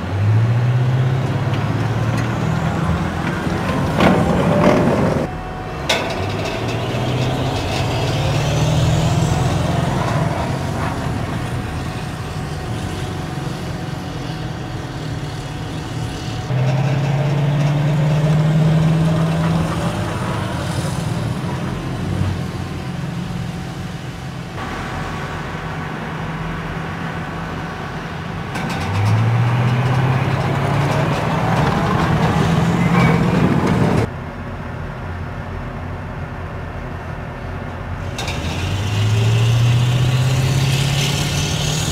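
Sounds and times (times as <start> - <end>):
diesel engines revving: 0.0 - 41.9.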